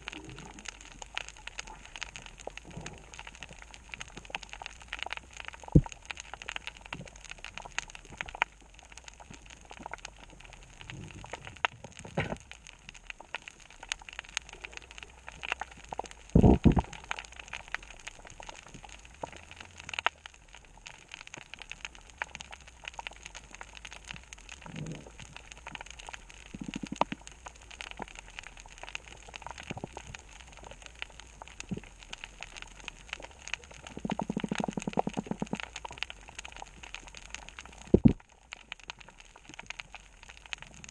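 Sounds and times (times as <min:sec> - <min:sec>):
low underwater rumbles: 0:00.0 - 0:40.9.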